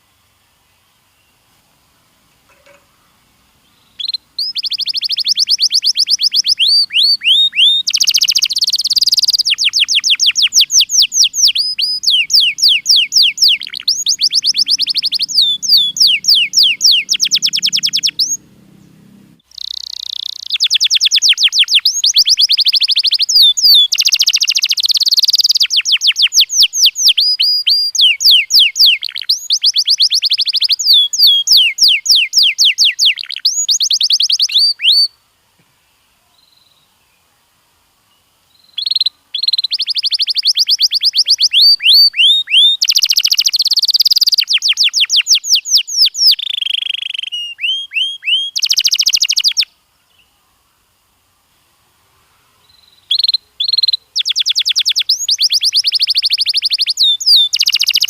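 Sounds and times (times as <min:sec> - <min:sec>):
canary singing in rolling trills: 0:02.5 - 0:35.2, 0:38.5 - 0:50.3, 0:52.6 - 0:58.0.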